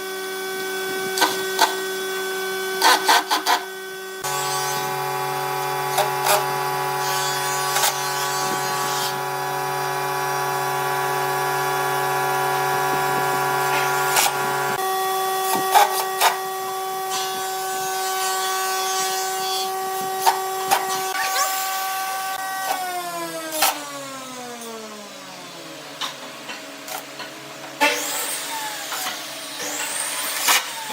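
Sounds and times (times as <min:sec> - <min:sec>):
power tool motor running: 0:00.0 - 0:25.3, 0:27.8 - 0:30.9.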